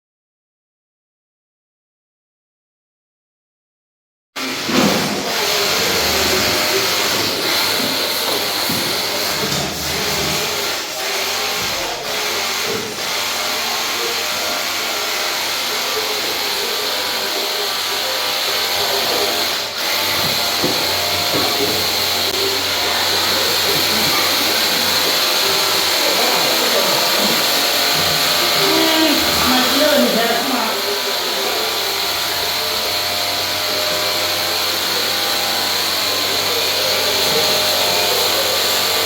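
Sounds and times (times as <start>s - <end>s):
pressure washer spraying: 4.4s - 39.0s.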